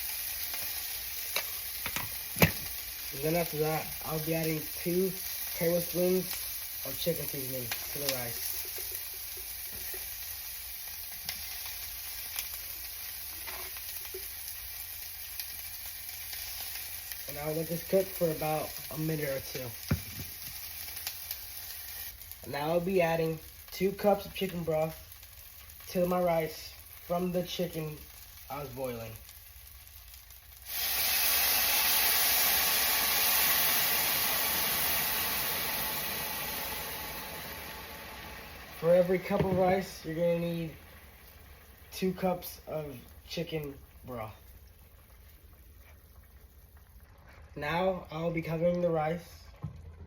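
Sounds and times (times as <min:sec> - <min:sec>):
rice sizzling in hot oil: 0:00.0 - 0:49.4.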